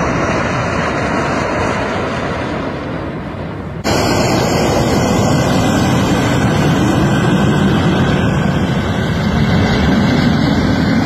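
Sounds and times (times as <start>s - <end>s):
jet engine roaring: 0.0s - 11.0s.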